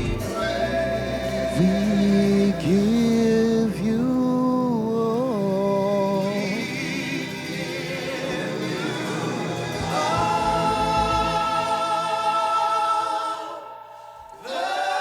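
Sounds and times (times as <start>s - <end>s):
keyboard and bass: 0.0s - 12.9s
singers holding a chord: 0.0s - 15.0s.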